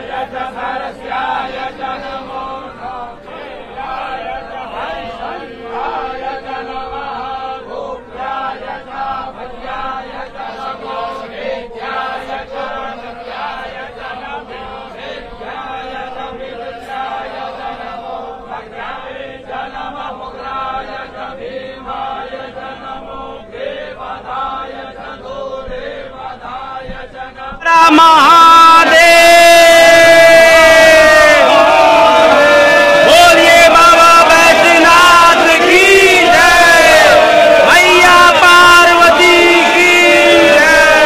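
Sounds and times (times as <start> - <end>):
men chanting: 0.0 - 41.0.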